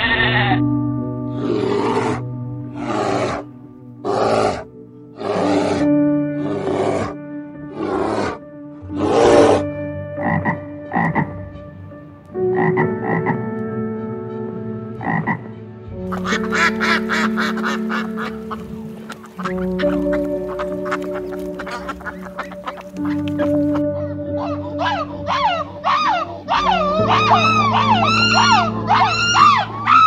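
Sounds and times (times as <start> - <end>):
soft background music: 0.0 - 30.0.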